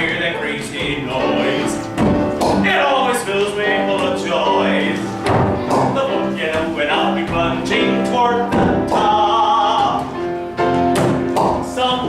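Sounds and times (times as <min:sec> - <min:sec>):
person singing with accompaniment: 0:00.0 - 0:12.0.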